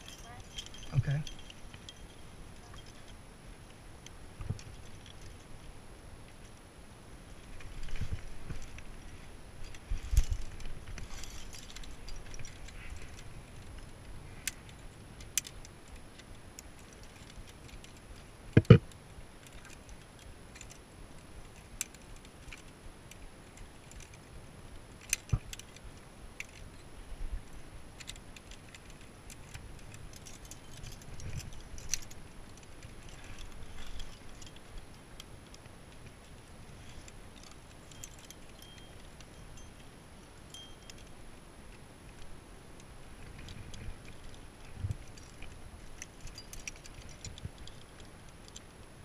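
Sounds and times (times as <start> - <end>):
climbing gear clinking: 0.0 - 3.3, 4.0 - 6.6, 7.3 - 18.8, 19.4 - 24.3, 24.9 - 48.8.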